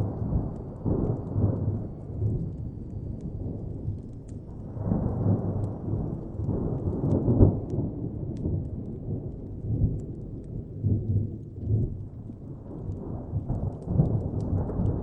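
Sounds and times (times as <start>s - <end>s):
distant thunder rumbling: 0.0s - 15.0s
wood fire crackling: 0.0s - 15.0s.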